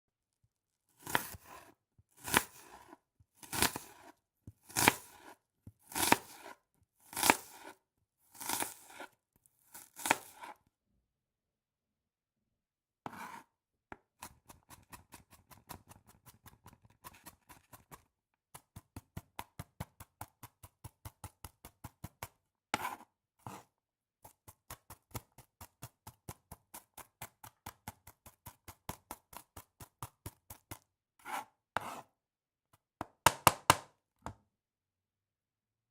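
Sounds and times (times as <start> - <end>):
knife chopping an onion: 1.0 - 10.7, 13.0 - 32.2, 32.8 - 34.5.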